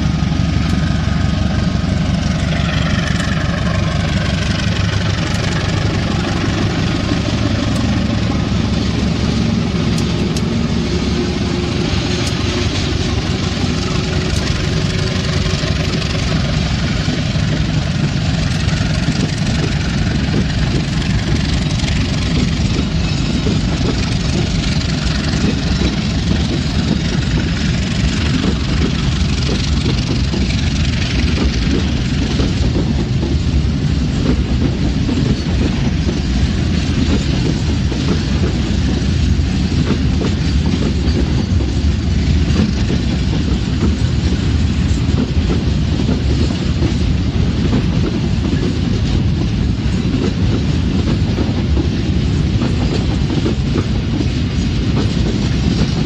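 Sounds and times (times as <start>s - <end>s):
locomotive engine throbbing: 0.0s - 56.0s.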